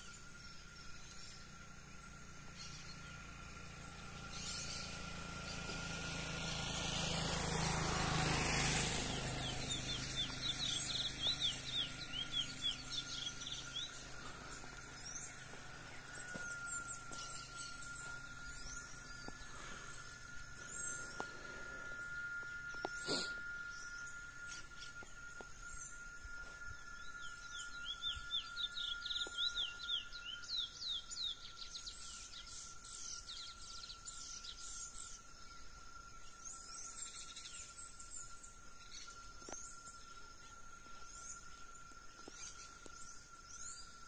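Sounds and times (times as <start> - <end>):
birds singing: 0.0 - 44.0
thin steady high tone: 0.0 - 44.0.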